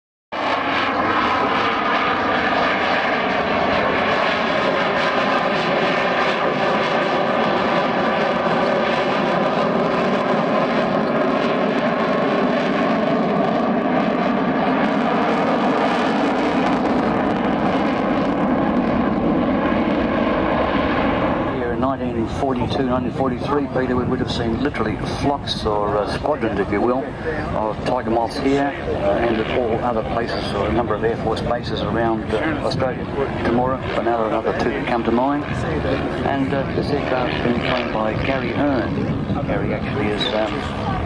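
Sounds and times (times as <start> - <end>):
jet engines roaring: 0.3 - 41.0.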